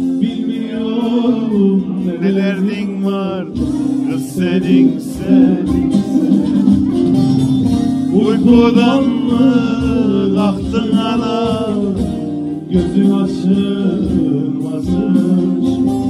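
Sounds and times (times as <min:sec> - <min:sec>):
acoustic guitar: 0:00.0 - 0:16.0
man singing: 0:00.0 - 0:16.0
strummed lute: 0:00.0 - 0:16.0.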